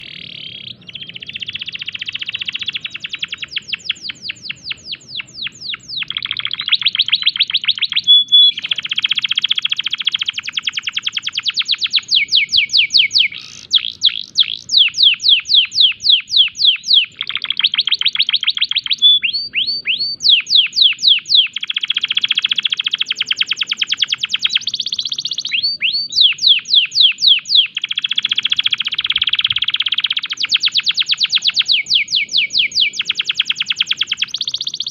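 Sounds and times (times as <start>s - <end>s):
canary singing trills and whistles: 0.0s - 34.9s.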